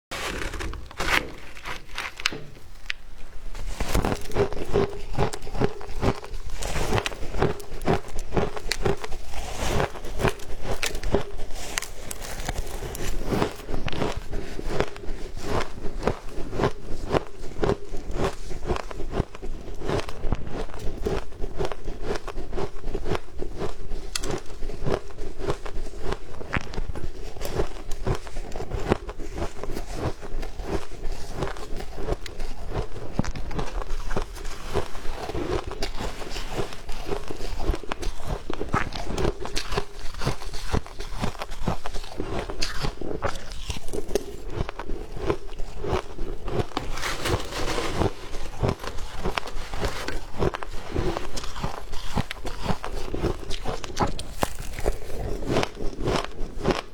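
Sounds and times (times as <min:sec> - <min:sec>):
person chewing crunchy ice: 0:00.1 - 0:56.9.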